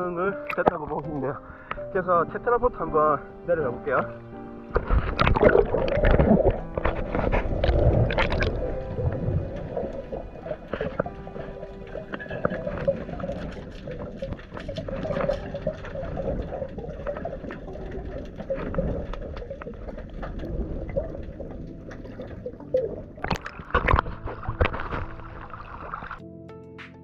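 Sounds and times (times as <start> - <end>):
muffled underwater rushing water: 0.0 - 26.2
water splashes: 0.0 - 26.2.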